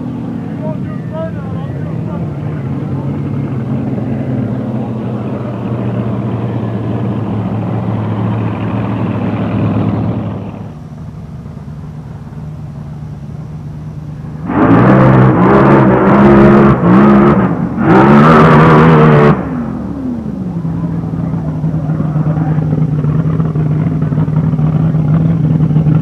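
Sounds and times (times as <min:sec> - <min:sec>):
drag car engine revving: 0:00.0 - 0:26.0
drag racing car engine running: 0:00.0 - 0:26.0.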